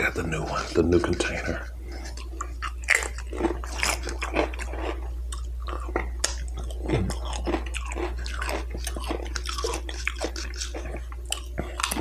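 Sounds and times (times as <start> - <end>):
crunching and chewing chips: 1.2 - 12.0.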